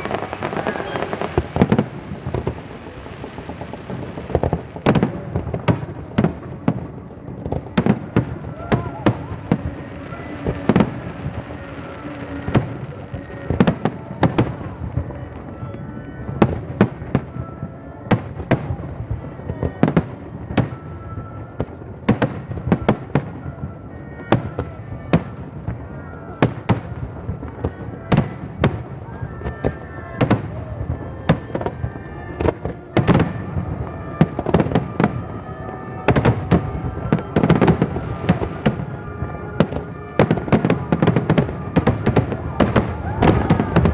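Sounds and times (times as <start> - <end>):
music playing: 0.0 - 4.1, 5.8 - 43.9
fireworks bangs: 0.0 - 43.9.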